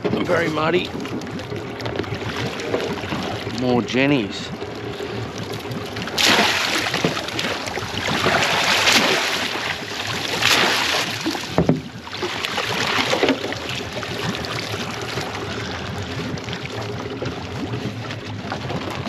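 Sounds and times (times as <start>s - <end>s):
water splashing and streaming: 0.0s - 19.0s.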